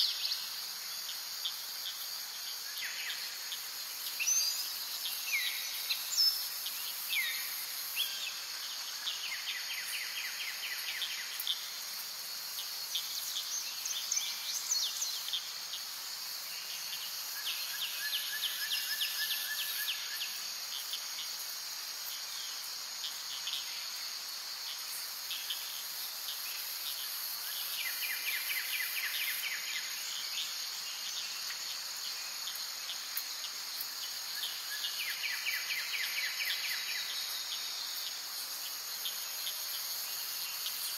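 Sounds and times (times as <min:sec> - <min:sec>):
insects buzzing: 0:00.0 - 0:40.9.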